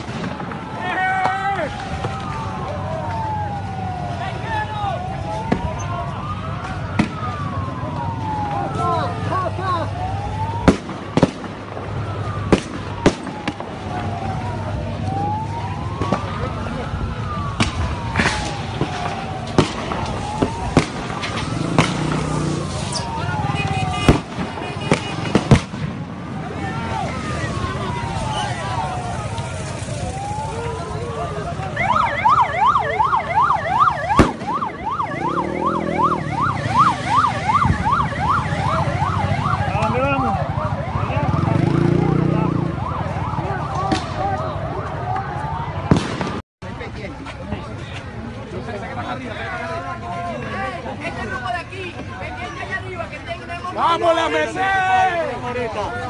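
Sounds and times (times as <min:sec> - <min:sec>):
siren wailing: 0:00.0 - 0:46.0.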